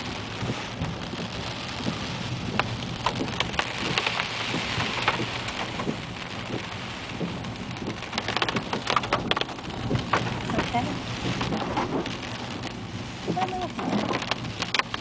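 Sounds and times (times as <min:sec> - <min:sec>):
heavy rain on a car: 0:00.0 - 0:15.0
low rumble of a car: 0:00.0 - 0:15.0.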